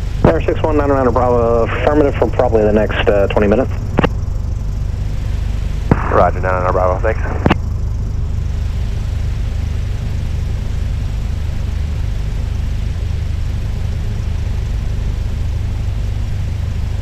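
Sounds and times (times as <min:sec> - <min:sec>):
piston engine droning: 0:00.0 - 0:17.0.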